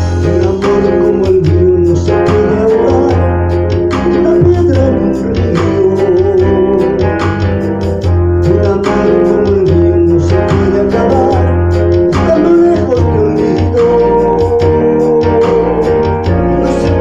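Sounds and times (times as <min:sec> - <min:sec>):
man singing into microphone: 0:00.0 - 0:07.7, 0:08.3 - 0:17.0
guitar backing track: 0:00.0 - 0:17.0.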